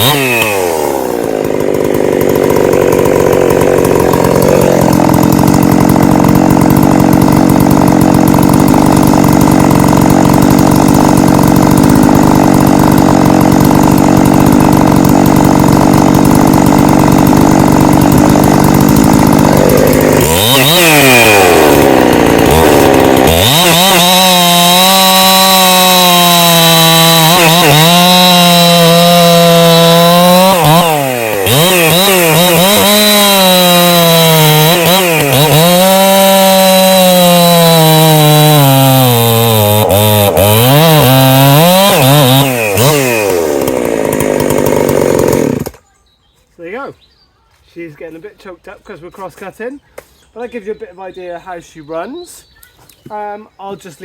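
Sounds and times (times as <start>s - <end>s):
chainsaw cutting a log: 0.0s - 45.9s.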